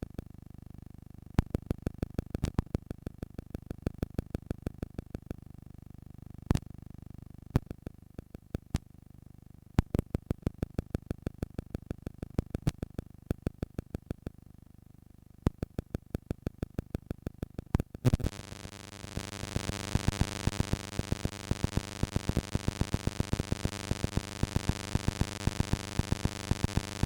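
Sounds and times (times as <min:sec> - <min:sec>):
tape hiss and hum: 0:00.0 - 0:27.0.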